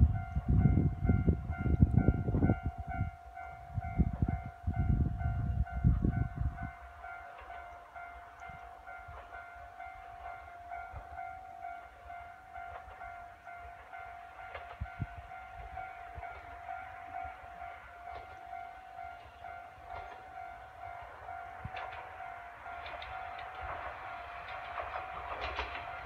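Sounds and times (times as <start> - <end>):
level crossing warning bell: 0.0 - 26.0
wind buffeting microphone: 0.0 - 26.0.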